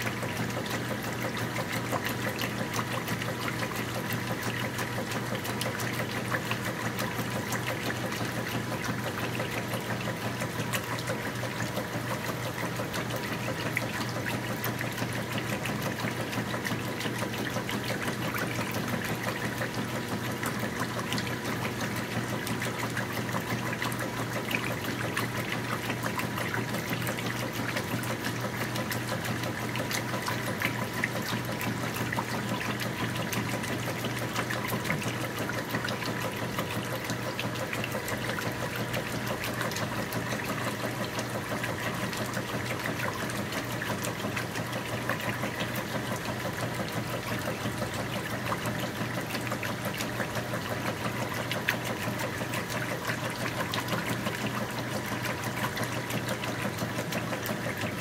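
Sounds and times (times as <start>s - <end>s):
washing machine sloshing: 0.0s - 58.0s.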